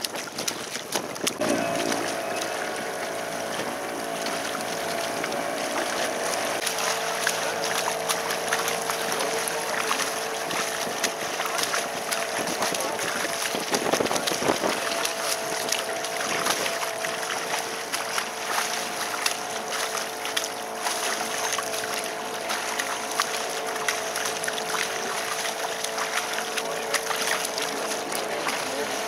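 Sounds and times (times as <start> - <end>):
boat engine two-note hum: 0.0 - 29.0
wind and water rushing: 0.0 - 29.0.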